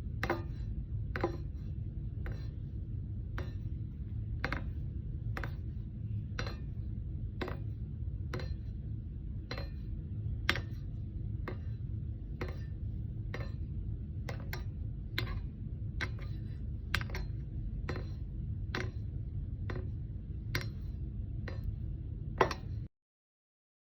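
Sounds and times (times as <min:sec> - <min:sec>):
steady low rumble: 0:00.0 - 0:22.9.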